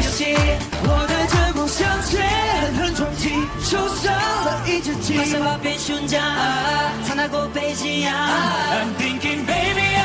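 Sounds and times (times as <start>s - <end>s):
dance-pop music: 0.0s - 10.0s
male group vocals: 0.0s - 10.0s.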